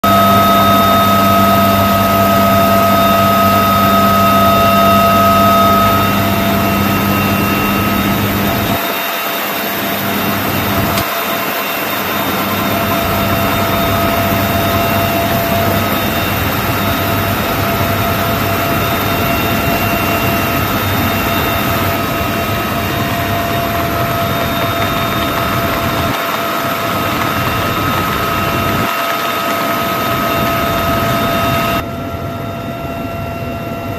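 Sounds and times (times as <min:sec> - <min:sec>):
helicopter turbine whine and drone: 0:00.0 - 0:33.9.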